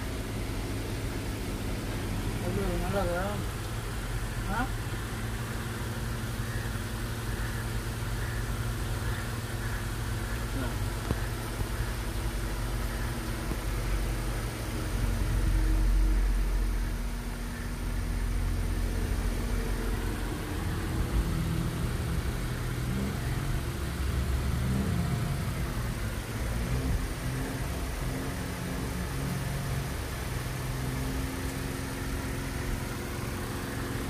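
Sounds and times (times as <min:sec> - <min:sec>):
steady hiss: 0:00.0 - 0:34.0
vehicle engine running: 0:00.0 - 0:34.0.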